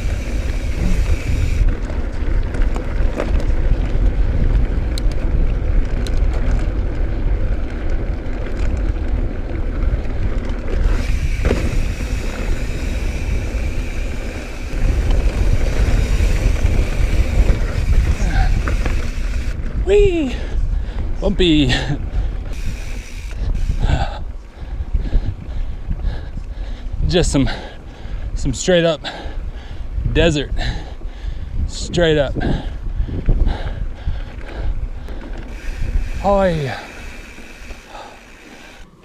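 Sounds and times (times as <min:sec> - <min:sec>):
bike clicks and rattles: 0:00.0 - 0:26.8, 0:30.6 - 0:39.0
wind buffeting microphone: 0:00.0 - 0:38.9
bike tyres rumbling on dirt: 0:00.0 - 0:39.0.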